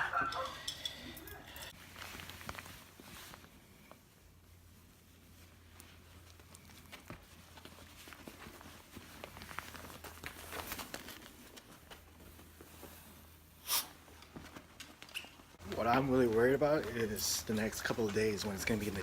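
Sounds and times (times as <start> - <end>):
faint crinkling and rustling: 1.3 - 19.0.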